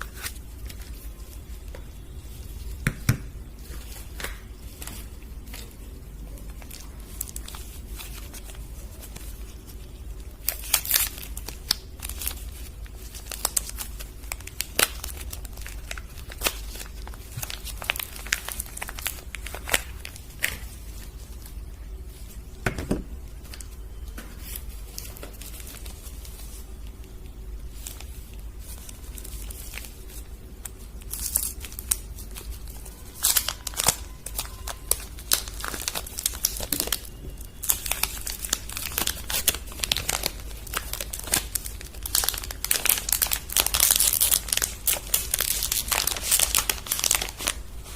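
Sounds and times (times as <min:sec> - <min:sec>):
wrapping crinkling and tearing: 0:00.0 - 0:02.8, 0:03.6 - 0:22.6, 0:23.2 - 0:47.9.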